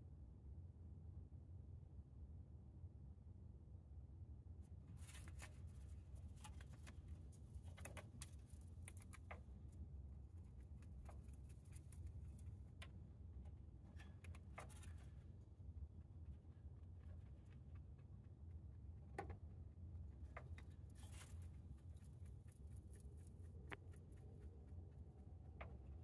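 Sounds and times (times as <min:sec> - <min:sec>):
low hum: 0:00.2 - 0:26.0
rabbit chewing hay: 0:04.7 - 0:26.0.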